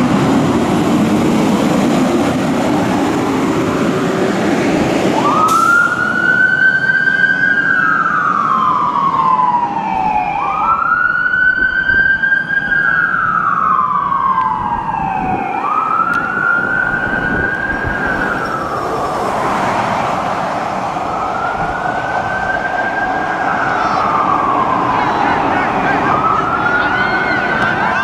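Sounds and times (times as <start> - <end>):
fire engine siren wailing: 0.0 - 28.0.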